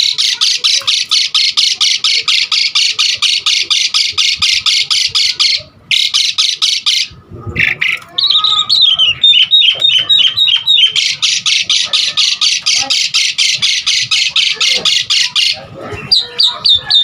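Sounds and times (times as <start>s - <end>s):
starling giving harsh rasping notes: 0.0s - 17.0s.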